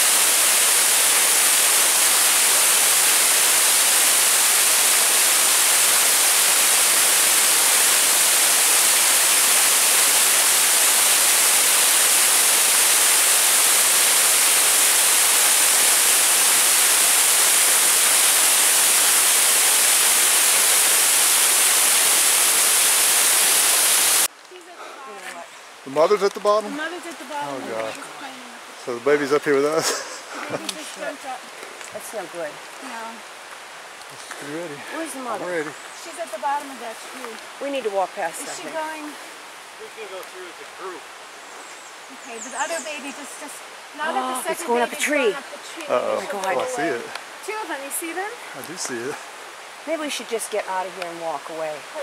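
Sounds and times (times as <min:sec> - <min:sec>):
waterfall rushing over rocks: 0:00.0 - 0:24.4, 0:25.1 - 0:41.3, 0:41.9 - 0:52.0.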